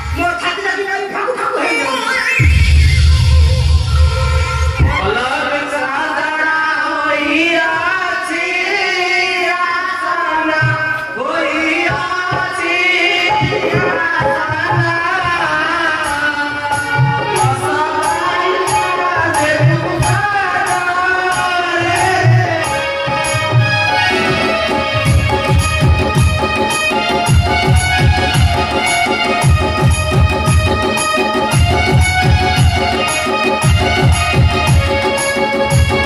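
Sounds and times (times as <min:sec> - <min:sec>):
drums with steady beat: 0:00.0 - 0:05.8, 0:10.5 - 0:36.0
wavering stage music melody: 0:00.0 - 0:36.0.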